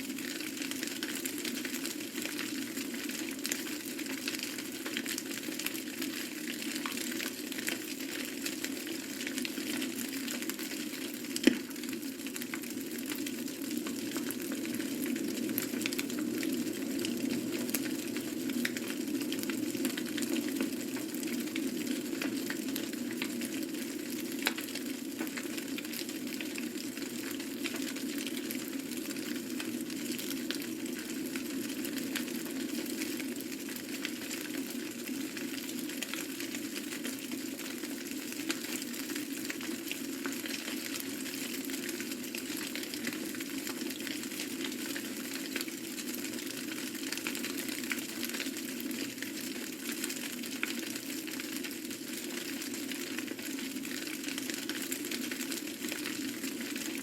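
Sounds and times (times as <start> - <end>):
open fire crackling and popping: 0.0 - 57.0.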